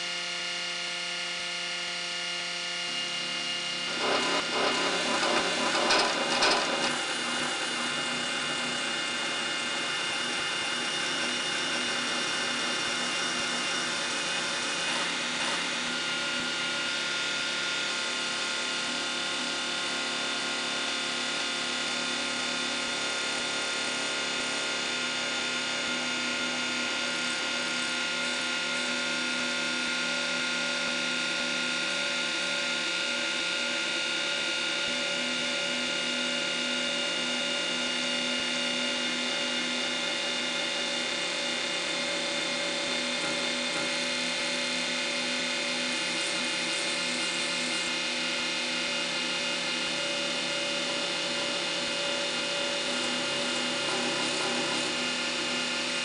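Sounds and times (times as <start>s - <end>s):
welding machine whirring: 2.1s - 56.0s.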